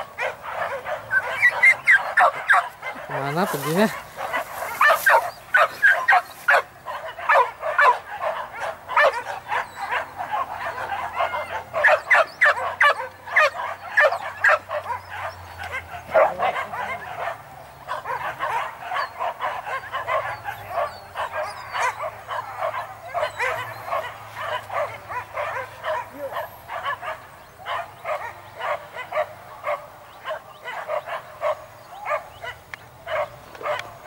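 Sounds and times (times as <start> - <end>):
dogs barking and yelping: 0.0 - 34.0.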